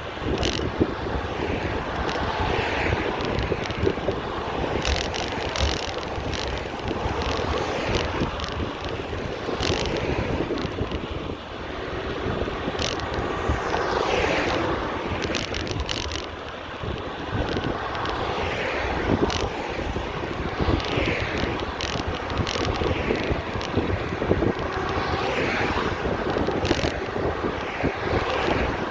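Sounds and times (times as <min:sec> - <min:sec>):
traffic passing by: 0:00.0 - 0:28.9
wind buffeting microphone: 0:00.0 - 0:28.9
sharp clicks and rattles: 0:00.3 - 0:00.9, 0:01.7 - 0:11.1, 0:12.7 - 0:14.6, 0:15.2 - 0:18.3, 0:19.1 - 0:25.1, 0:25.7 - 0:28.9.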